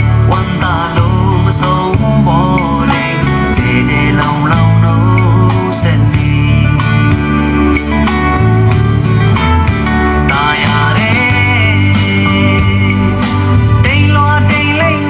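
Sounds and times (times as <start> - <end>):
person singing: 0.0 - 8.6, 9.4 - 15.0
guitar: 0.0 - 15.0
heavy bass line: 0.0 - 15.0.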